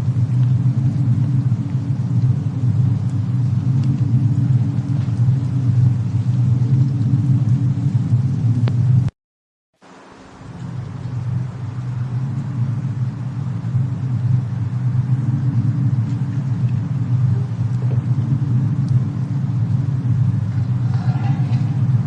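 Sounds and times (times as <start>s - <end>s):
faint fire crackles: 0.0s - 9.1s, 9.8s - 22.0s
low rumble: 0.0s - 9.1s, 10.2s - 22.0s.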